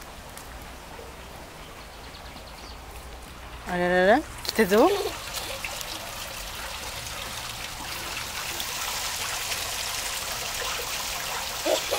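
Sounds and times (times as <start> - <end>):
water trickling in a stream: 2.0 - 11.9.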